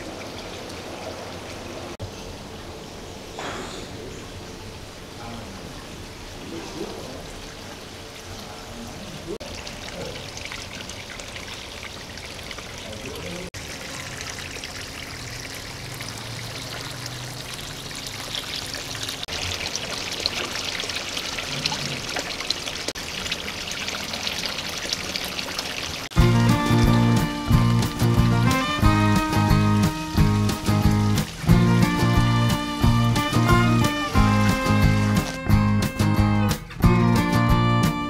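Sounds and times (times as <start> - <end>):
water pouring and splashing: 0.0 - 2.8, 5.0 - 36.8.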